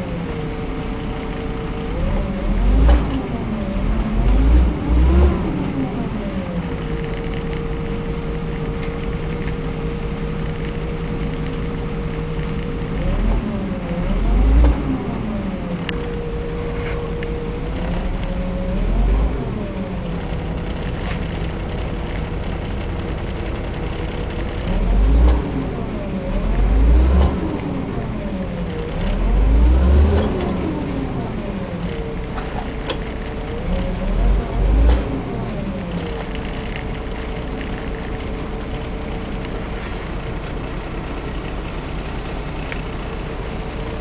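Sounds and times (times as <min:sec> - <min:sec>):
diesel engine idling and revving: 0:00.0 - 0:44.0
power-steering pump whining: 0:00.0 - 0:44.0.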